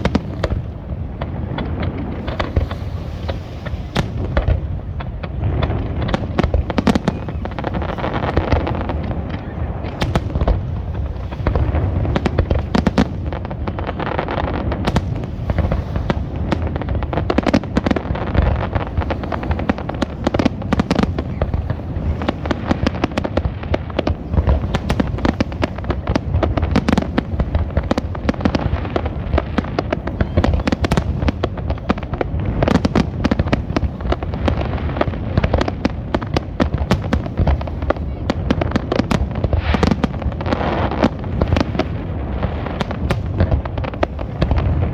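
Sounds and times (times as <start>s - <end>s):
dense crackle of rapid pops: 0.0s - 44.9s.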